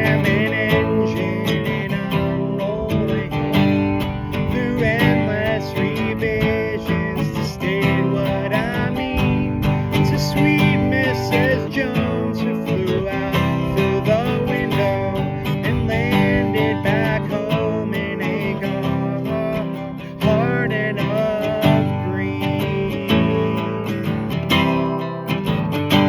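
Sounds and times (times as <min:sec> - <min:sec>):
person singing: 0:00.0 - 0:25.2
acoustic guitar strumming: 0:00.0 - 0:26.0.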